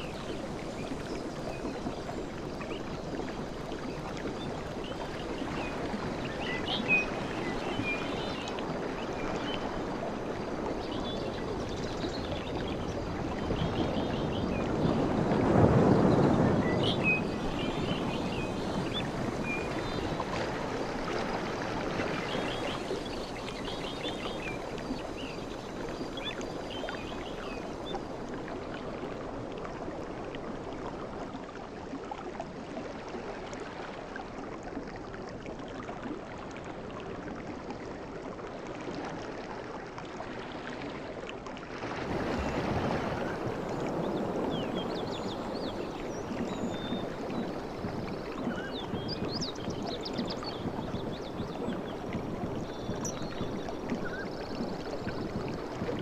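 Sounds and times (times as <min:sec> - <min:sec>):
sea waves washing onto beach: 0:00.0 - 0:35.4, 0:36.2 - 0:56.0.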